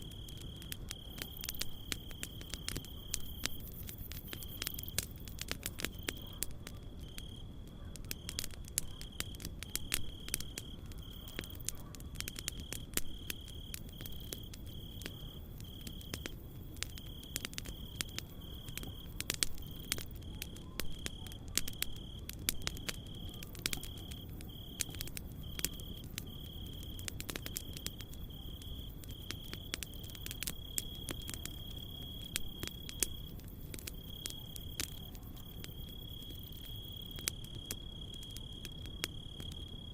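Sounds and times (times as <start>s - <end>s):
campfire crackling: 0.0s - 39.9s
cricket chirping: 0.0s - 39.9s.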